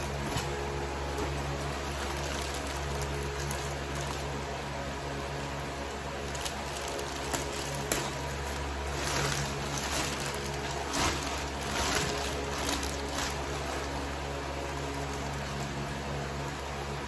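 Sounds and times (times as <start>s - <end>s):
water sloshing in bag: 0.0s - 4.5s, 6.1s - 16.4s
plastic bag crinkling: 0.0s - 4.8s, 6.0s - 16.8s.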